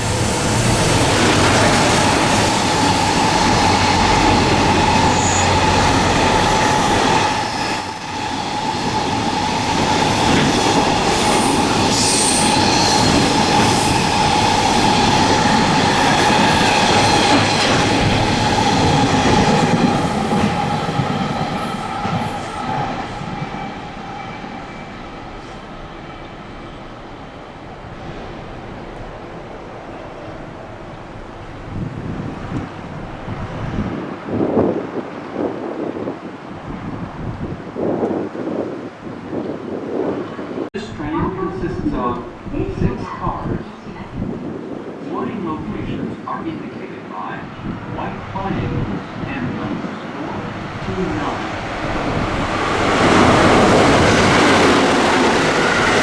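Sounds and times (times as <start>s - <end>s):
train wheels rushing on rails: 0.0s - 38.7s, 47.3s - 56.0s.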